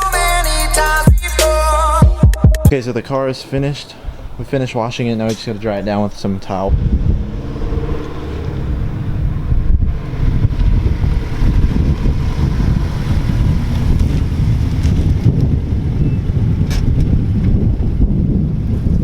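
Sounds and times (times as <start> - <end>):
wind buffeting microphone: 2.7 - 19.0.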